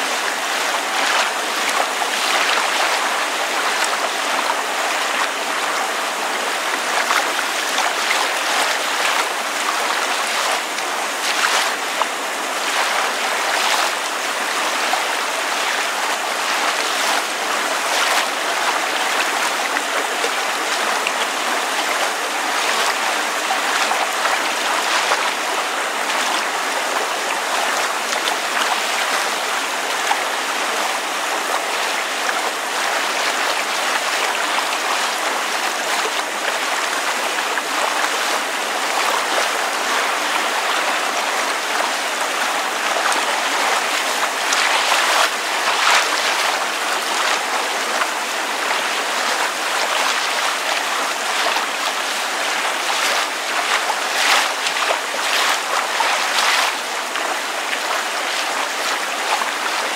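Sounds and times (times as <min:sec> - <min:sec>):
rain falling: 0:00.0 - 0:59.9
small water splashes: 0:00.0 - 0:59.9
water lapping: 0:00.0 - 0:59.9.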